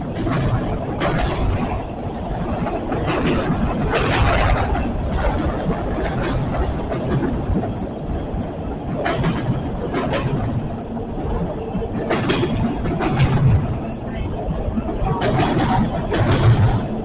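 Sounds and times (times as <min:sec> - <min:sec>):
train wheels rumbling: 0:00.0 - 0:17.0
wheels clacking over rail joints: 0:00.0 - 0:17.0.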